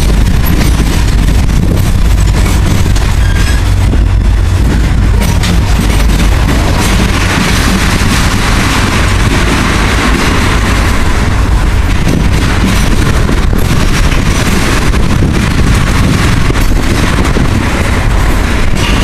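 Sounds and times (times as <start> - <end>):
freight train rumbling past: 0.0 - 19.0
wind buffeting microphone: 0.0 - 19.0.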